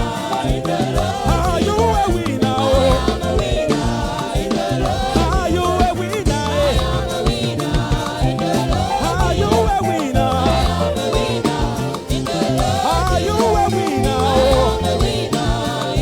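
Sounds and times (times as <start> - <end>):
band playing upbeat music: 0.0 - 16.0
voices singing: 0.0 - 16.0.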